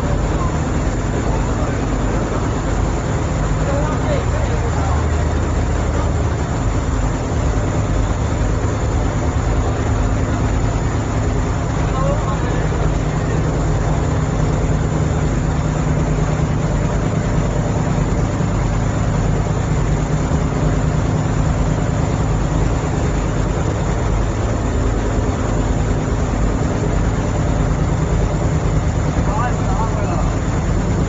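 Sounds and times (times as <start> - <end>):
low engine drone: 0.0 - 31.0.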